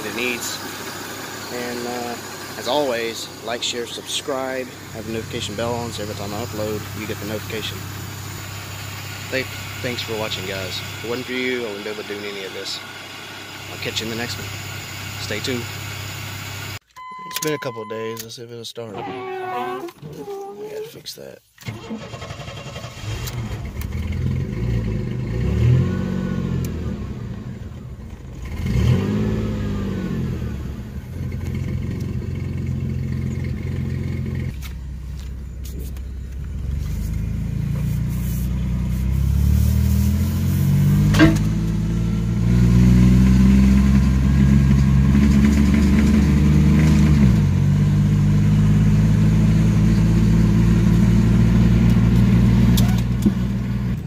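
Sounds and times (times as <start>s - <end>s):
car engine revving: 0.0s - 16.8s, 21.7s - 34.6s, 35.7s - 54.0s.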